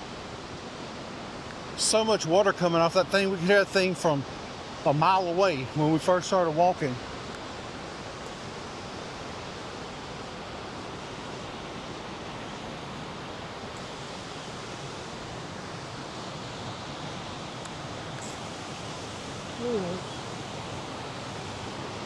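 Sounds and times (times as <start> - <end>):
waterfall thundering: 1.7 - 22.0.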